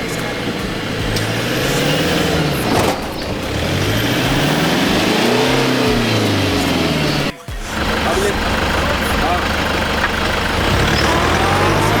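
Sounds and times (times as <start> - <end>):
suv engine revving: 0.0 - 12.0.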